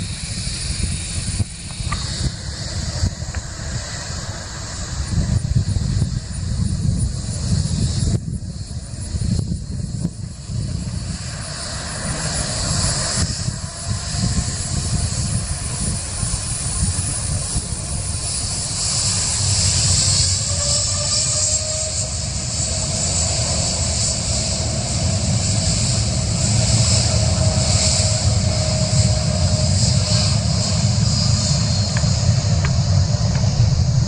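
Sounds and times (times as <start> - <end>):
engine whine rising in pitch: 0.0 - 34.0
jet engines rumbling: 0.0 - 34.0.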